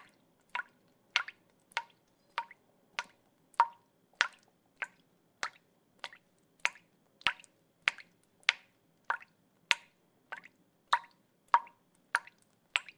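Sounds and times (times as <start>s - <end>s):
water drops plinking into water: 0.0s - 12.9s.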